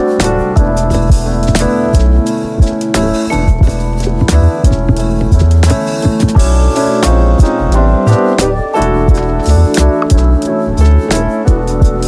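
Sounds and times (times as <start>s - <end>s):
keyboard chords: 0.0s - 12.0s
steady drum beat: 0.0s - 12.0s.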